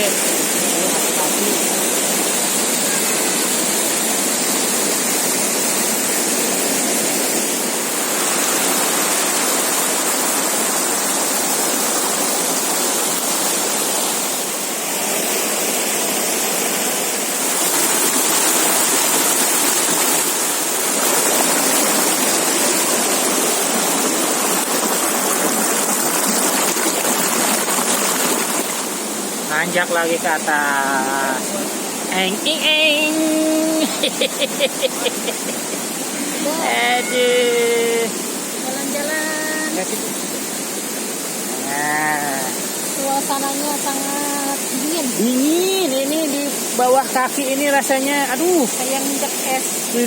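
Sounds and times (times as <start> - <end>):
river rushing: 0.0 - 50.0.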